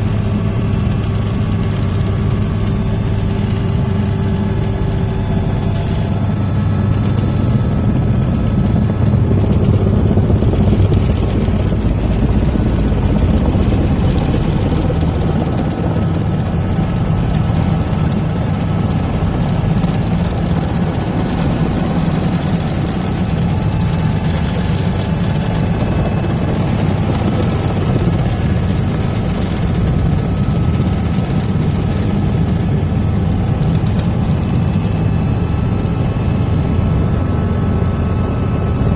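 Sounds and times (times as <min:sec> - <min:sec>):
helicopter rotor and engine drone: 0:00.0 - 0:38.9
high steady whine: 0:00.0 - 0:38.9.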